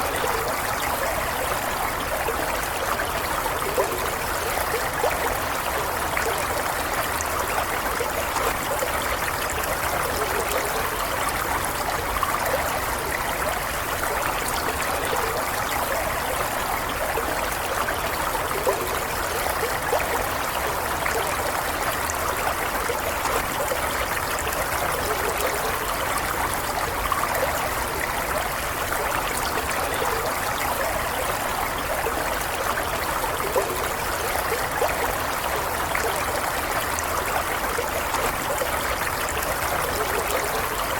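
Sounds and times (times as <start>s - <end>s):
stream water gurgling: 0.0s - 40.9s.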